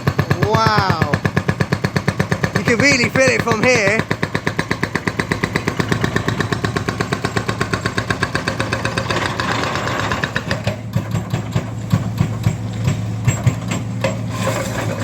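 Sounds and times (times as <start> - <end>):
rapid mechanical hammering: 0.0 - 14.2
diesel engine running: 0.0 - 15.0
concrete and metal clanking: 1.1 - 15.0.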